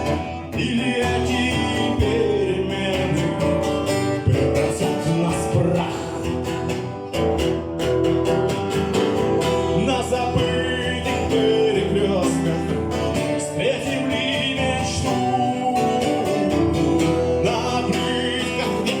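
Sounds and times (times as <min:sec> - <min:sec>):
person singing: 0:00.0 - 0:06.5, 0:09.6 - 0:19.0
acoustic guitar playing: 0:00.0 - 0:19.0.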